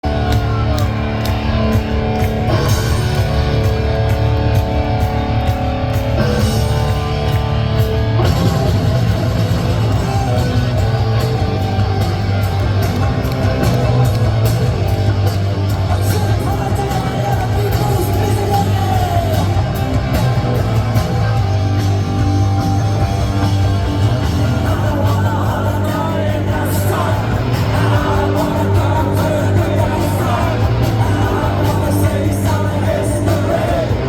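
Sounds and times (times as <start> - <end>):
distorted electric guitar chords: 0.0 - 34.0
drums and bass: 0.0 - 34.0.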